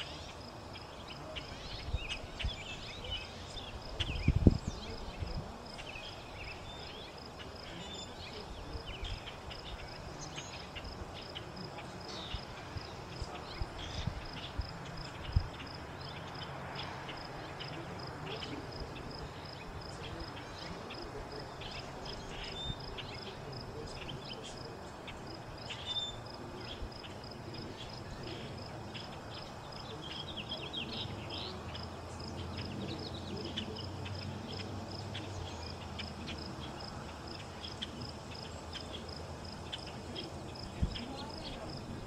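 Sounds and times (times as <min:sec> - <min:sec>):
cricket chirping: 0:00.0 - 0:42.0.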